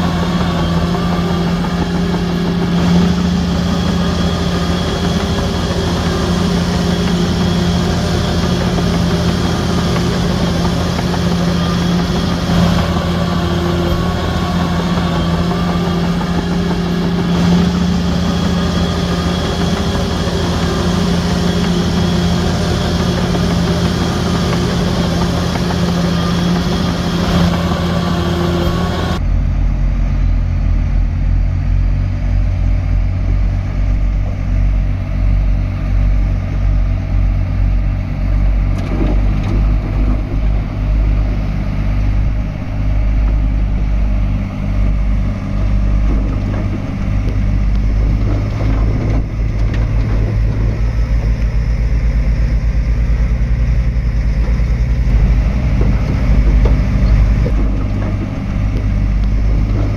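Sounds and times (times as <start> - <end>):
bulldozer diesel engine rumbling: 0.0 - 59.9.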